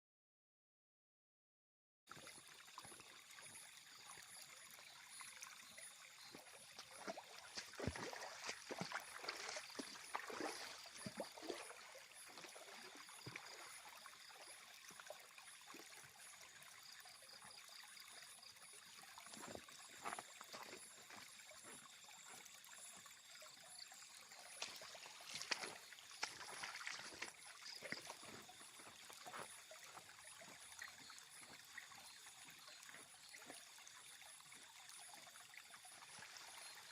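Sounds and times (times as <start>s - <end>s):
river water flowing and gurgling: 2.1s - 36.9s
small splashes and trickles: 2.1s - 36.9s.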